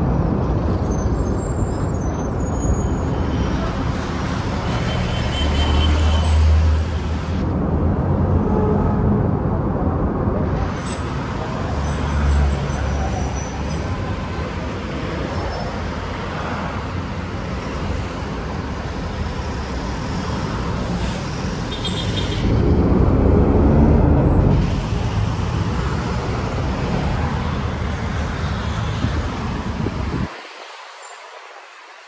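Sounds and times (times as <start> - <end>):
buses and cars passing: 0.0 - 32.0.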